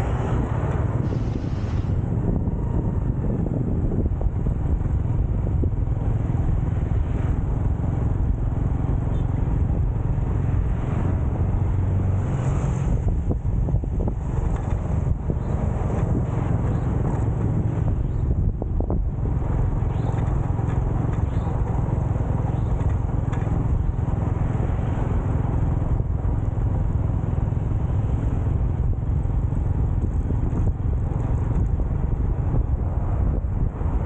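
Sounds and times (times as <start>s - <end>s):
motorcycle engine: 0.0s - 33.8s
wind rumbling on microphone: 0.0s - 34.0s.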